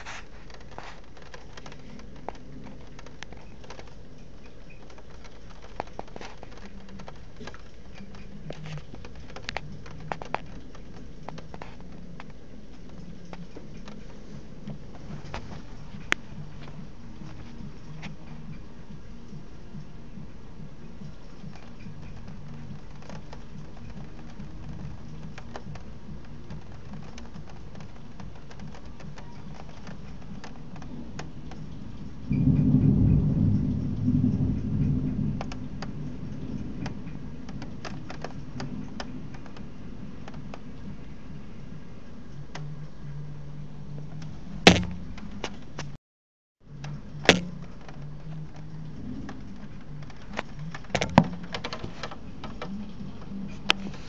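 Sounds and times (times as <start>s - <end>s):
rain rumbling wash: 0.0s - 46.0s, 46.6s - 54.0s
sharp raindrops ticking: 0.0s - 46.0s, 46.6s - 54.0s.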